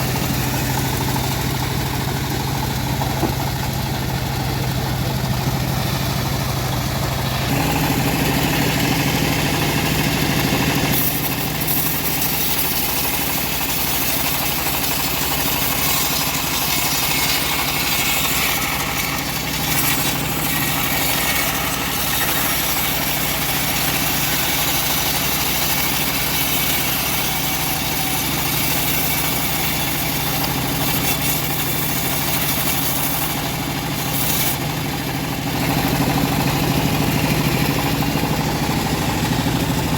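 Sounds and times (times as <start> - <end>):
bandsaw mill engine running: 0.0 - 39.9
saw blade hissing through log: 7.3 - 39.9.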